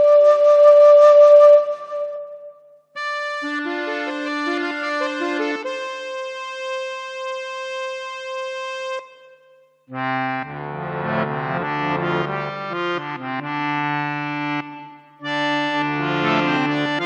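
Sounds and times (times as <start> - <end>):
keyboard melody: 0.0 - 17.0
keyboard chords and bass line: 3.0 - 17.0.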